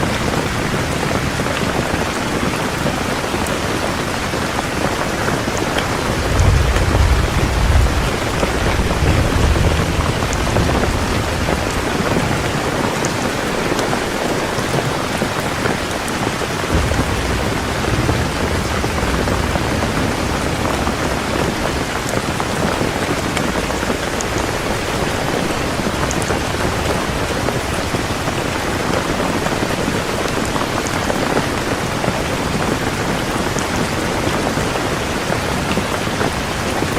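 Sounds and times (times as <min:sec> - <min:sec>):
heavy rain pouring: 0:00.0 - 0:36.9
rolling thunder rumbles: 0:00.0 - 0:36.9.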